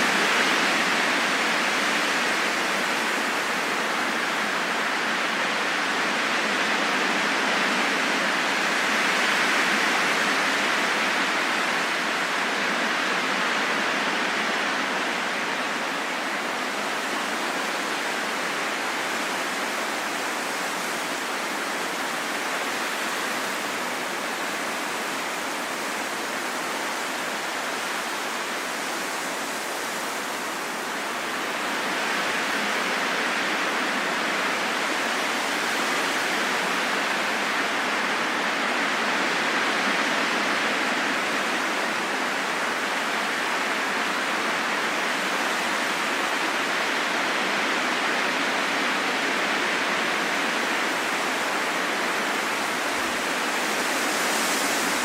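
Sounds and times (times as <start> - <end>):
rushing wind: 0.0 - 55.0.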